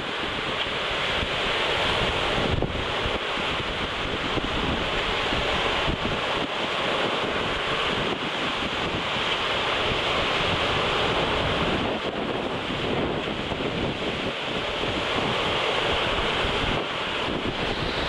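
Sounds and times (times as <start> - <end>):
waves churning: 0.0 - 18.0
wind buffeting microphone: 0.0 - 18.0.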